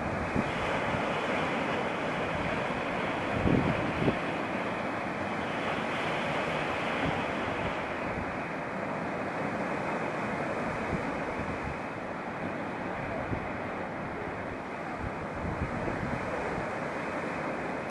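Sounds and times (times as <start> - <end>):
surf breaking over rocks: 0.0 - 17.9.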